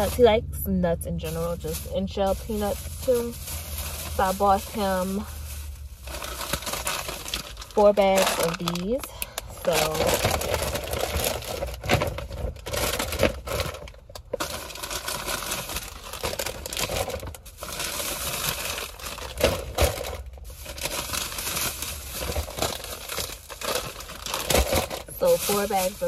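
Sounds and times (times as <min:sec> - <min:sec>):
shopping bags crinkling: 0:00.0 - 0:26.0.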